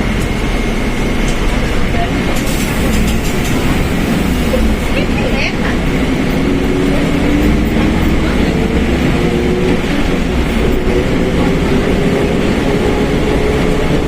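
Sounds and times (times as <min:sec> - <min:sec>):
diesel bus running: 0:00.0 - 0:14.0
differential howling whine: 0:00.0 - 0:14.0.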